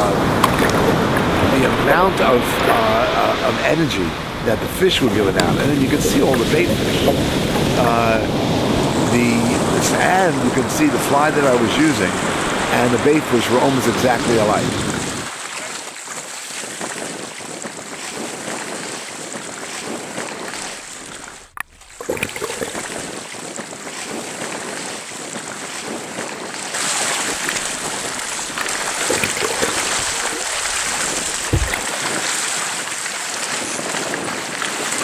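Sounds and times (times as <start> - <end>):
wind noise on microphone: 0.0 - 13.0, 13.8 - 15.4, 16.4 - 35.0
seawater splashing and churning: 0.0 - 35.0.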